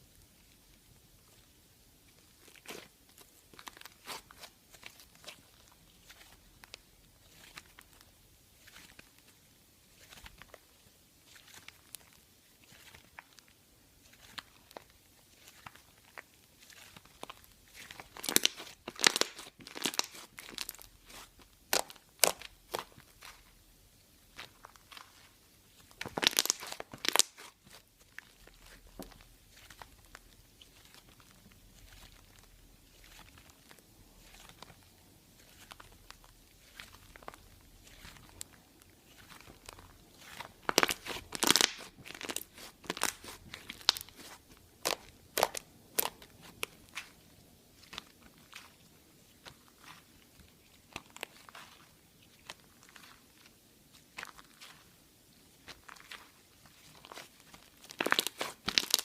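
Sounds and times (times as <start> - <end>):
slime crackling and snapping: 2.1 - 9.3, 11.3 - 23.6, 24.3 - 54.9, 55.6 - 59.0.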